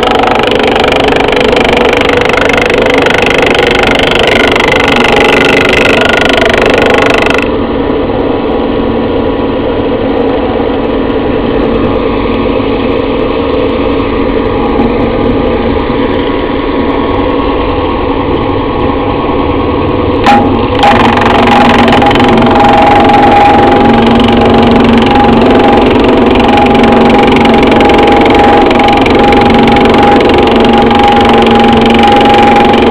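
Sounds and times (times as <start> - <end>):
thickness planer running: 0.0 - 32.9.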